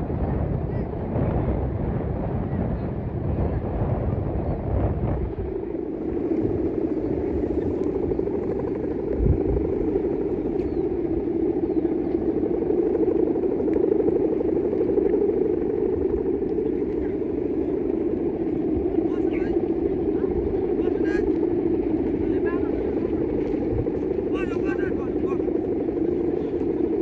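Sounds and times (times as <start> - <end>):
kite string hummer droning: 0.0 - 27.0.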